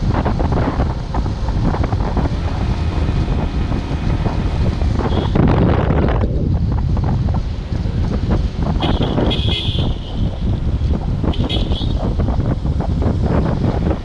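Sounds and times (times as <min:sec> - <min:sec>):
vehicle rumble: 0:00.0 - 0:14.0
wind buffeting microphone: 0:00.0 - 0:14.0.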